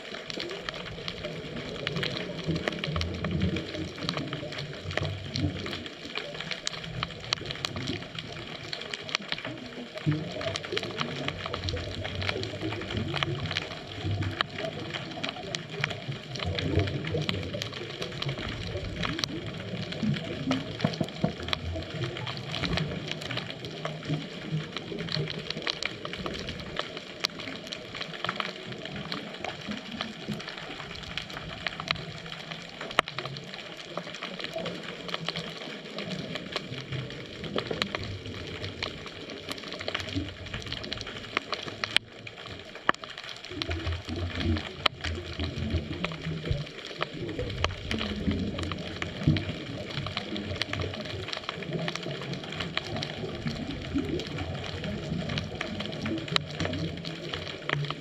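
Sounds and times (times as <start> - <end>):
exhaled bubbles rumbling: 0.0 - 58.0
underwater crackling and clicking: 0.0 - 58.0.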